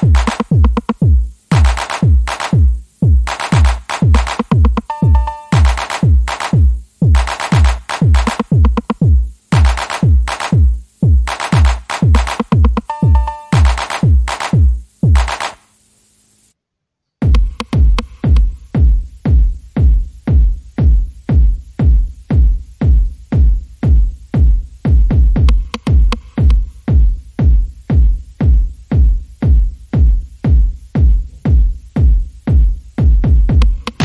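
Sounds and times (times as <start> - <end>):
loud kick drum: 0.0 - 15.5, 17.2 - 34.0
electronic dance music: 0.0 - 15.8, 17.2 - 34.0.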